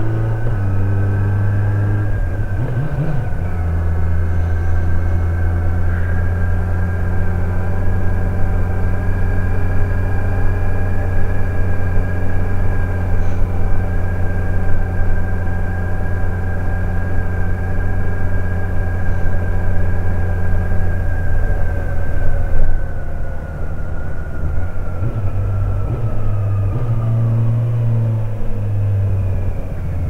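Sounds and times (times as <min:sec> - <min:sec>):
high whine: 0:00.0 - 0:30.0
motorcycle engine running: 0:00.0 - 0:30.0.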